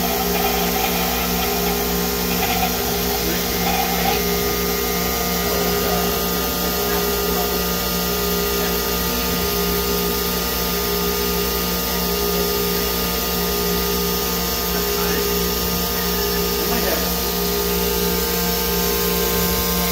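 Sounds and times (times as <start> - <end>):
machining center mechanical hum: 0.0 - 19.9.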